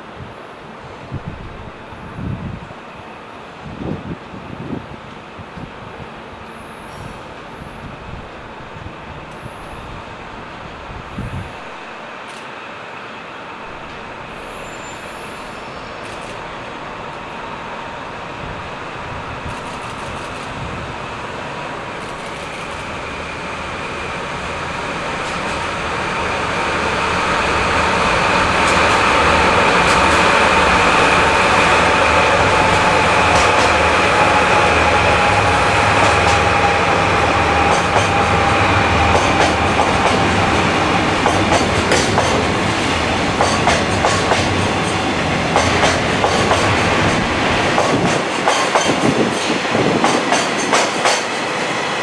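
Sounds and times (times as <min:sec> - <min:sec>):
freight train rumbling: 0:00.0 - 0:52.0.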